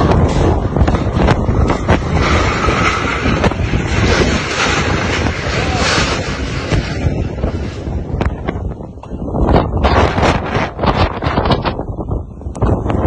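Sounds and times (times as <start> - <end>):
wind buffeting microphone: 0.0 - 13.0
wind-driven rain hissing: 0.0 - 13.0.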